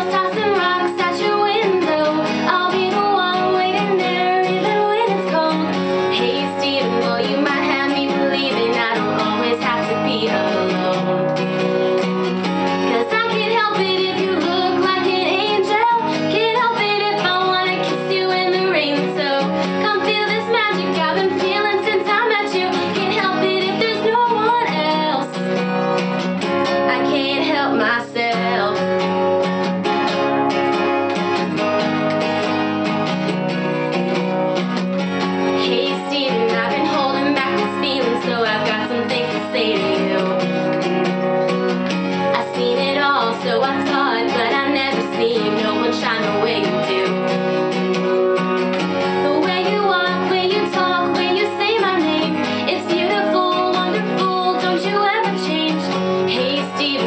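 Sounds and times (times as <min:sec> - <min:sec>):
woman singing: 0:00.0 - 0:11.6, 0:12.4 - 0:25.8, 0:26.6 - 0:29.4, 0:35.4 - 0:57.0
strummed acoustic guitar: 0:00.0 - 0:57.0.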